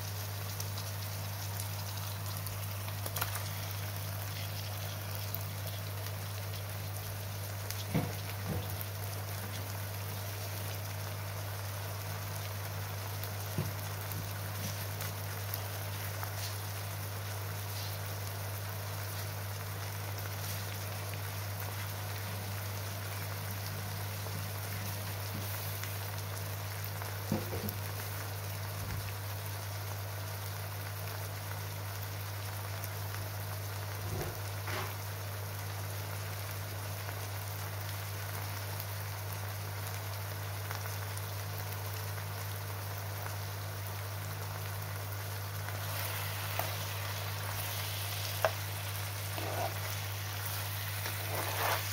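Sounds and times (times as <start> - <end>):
onions and liver sizzling in oil: 0.0 - 51.9.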